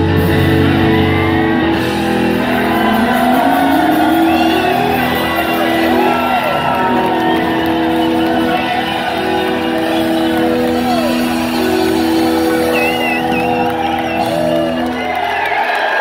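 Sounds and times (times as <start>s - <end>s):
rock band holding final chord: 0.0s - 15.4s
audience whoops and whistles: 0.8s - 16.0s.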